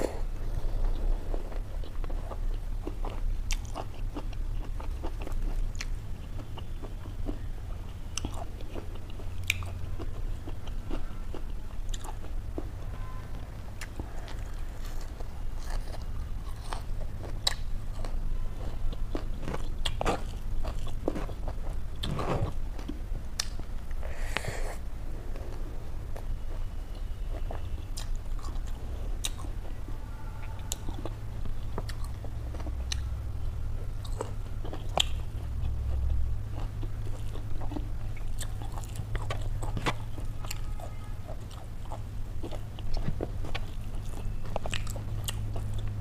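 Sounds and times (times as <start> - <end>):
person chewing crunchy food: 0.0 - 46.0.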